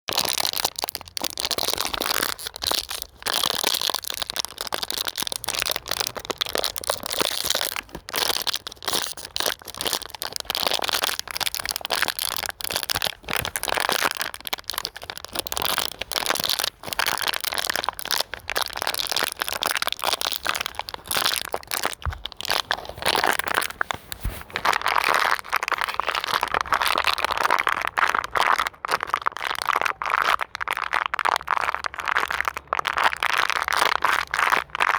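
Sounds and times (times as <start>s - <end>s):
plastic bottle crinkling and crushing: 0.1s - 34.9s.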